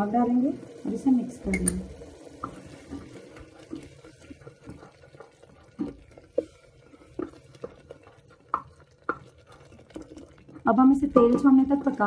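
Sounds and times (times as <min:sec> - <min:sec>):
spatula scraping and tapping pot: 0:01.4 - 0:12.0
spatula stirring thick paste: 0:02.2 - 0:12.0.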